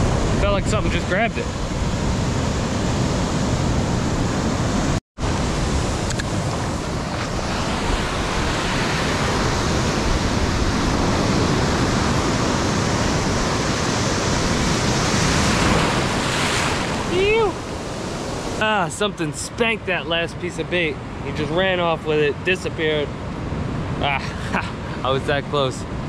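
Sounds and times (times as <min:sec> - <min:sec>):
surf on beach: 0:00.0 - 0:26.0.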